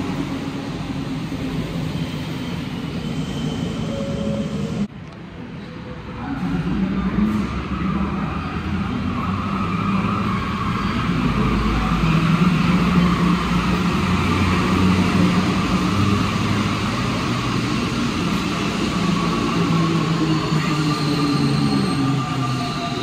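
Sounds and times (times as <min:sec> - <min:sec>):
metro train running: 0:00.0 - 0:23.0.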